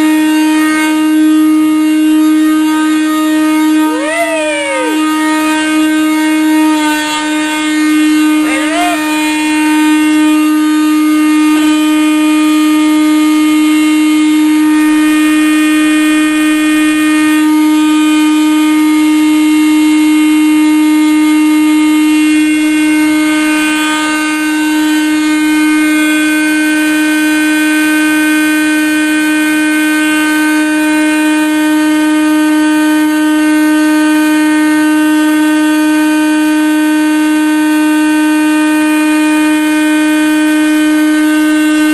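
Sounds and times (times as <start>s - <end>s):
horn-like plumbing tone: 0.0s - 41.9s.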